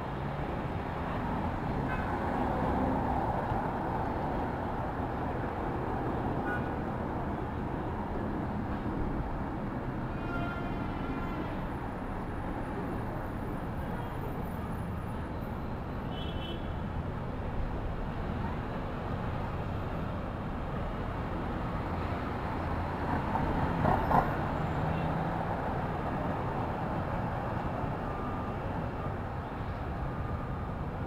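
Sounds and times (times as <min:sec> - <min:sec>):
passing cars and trucks: 0:00.0 - 0:31.0.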